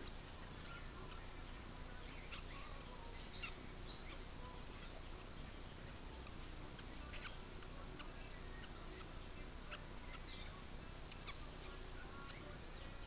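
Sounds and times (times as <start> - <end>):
steady hiss: 0.0 - 13.0
parrot chick squeaking: 0.5 - 13.0.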